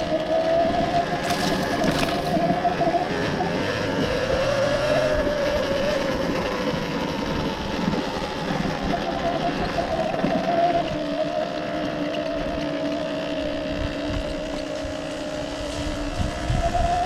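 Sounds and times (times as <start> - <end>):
electric motorcycle whine: 0.0 - 17.0.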